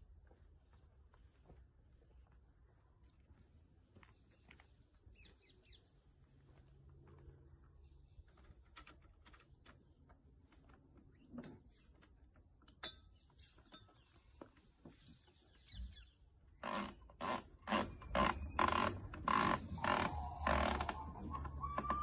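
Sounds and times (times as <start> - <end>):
faint birdsong: 0.1 - 16.9, 17.7 - 22.0.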